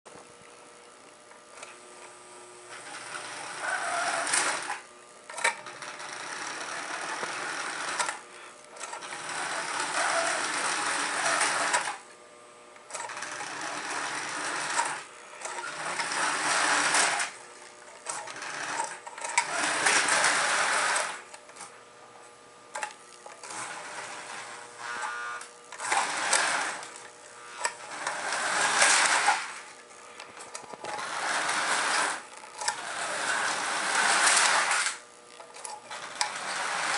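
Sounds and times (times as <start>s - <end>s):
toy train motor whirring: 2.7s - 12.0s, 12.8s - 21.7s, 22.7s - 36.9s.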